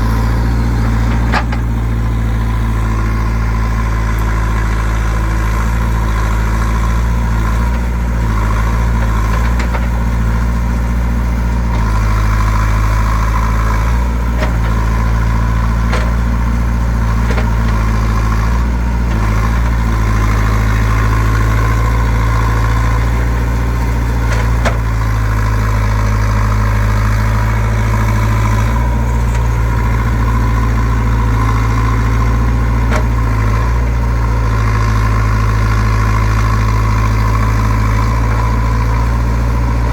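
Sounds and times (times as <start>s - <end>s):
diesel engine idling low: 0.0s - 39.9s.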